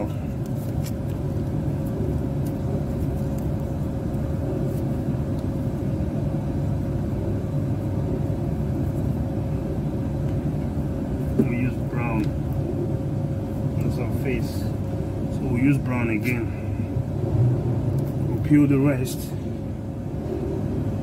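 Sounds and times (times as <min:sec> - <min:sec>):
constant hum: 0:00.0 - 0:21.0
low machinery rumble: 0:00.0 - 0:21.0.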